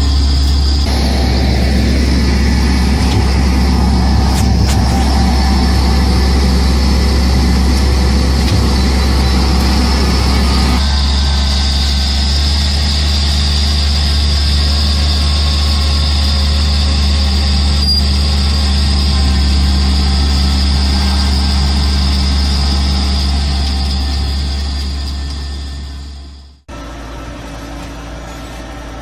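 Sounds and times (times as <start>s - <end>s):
engine humming: 0.0s - 29.0s
high whine: 0.0s - 29.0s.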